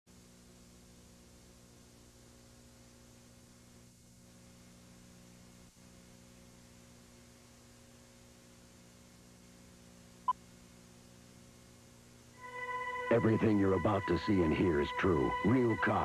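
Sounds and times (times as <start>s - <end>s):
faint mains hum: 0.1s - 16.0s.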